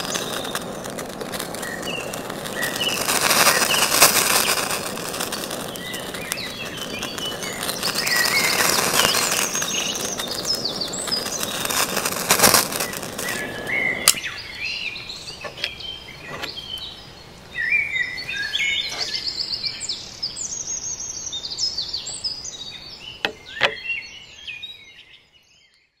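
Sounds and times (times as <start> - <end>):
crackling hissing noise: 0.0 - 24.4.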